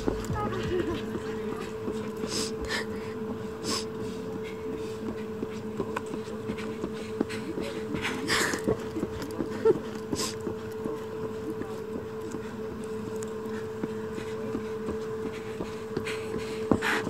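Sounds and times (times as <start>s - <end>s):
steady two-pitch hum: 0.0s - 17.0s.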